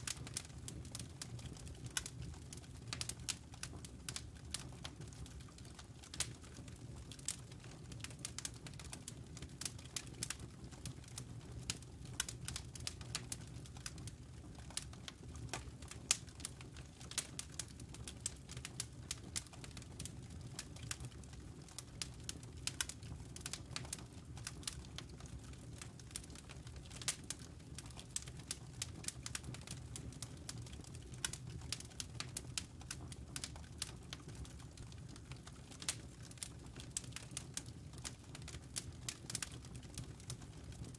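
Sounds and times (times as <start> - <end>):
campfire wood crackling: 0.0 - 40.9
low rumble of fire: 0.0 - 40.9.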